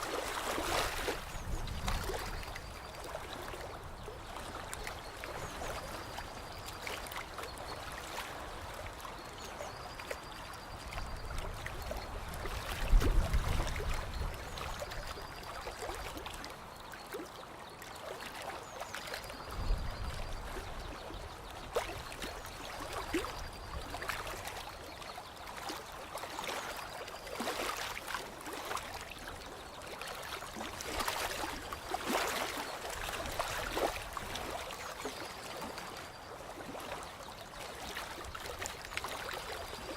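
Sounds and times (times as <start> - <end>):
small drips and splashes: 0.0 - 39.9
water trickling and lapping: 0.0 - 39.9.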